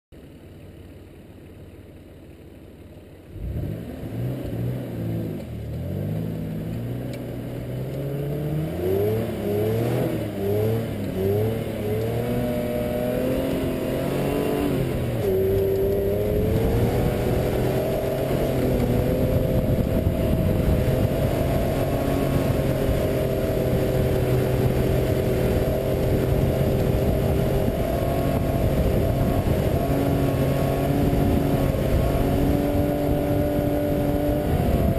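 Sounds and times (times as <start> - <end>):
car engine revving: 3.0 - 34.9.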